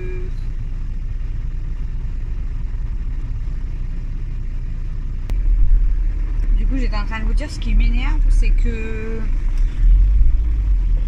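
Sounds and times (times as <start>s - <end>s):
road vehicle rumble: 0.0s - 11.0s.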